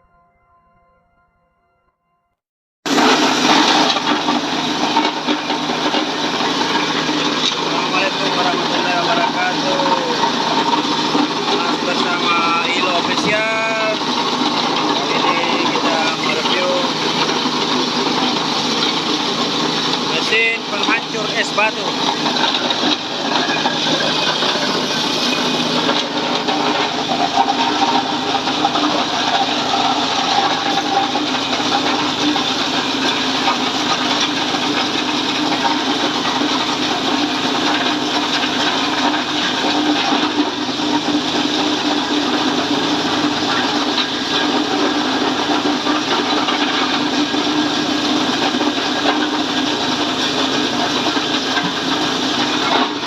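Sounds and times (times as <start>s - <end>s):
ice-crushing machine rushing: 2.9s - 53.0s.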